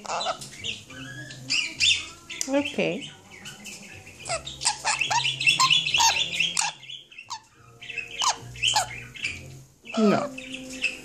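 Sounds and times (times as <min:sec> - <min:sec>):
parrot chirping: 0:00.0 - 0:11.0.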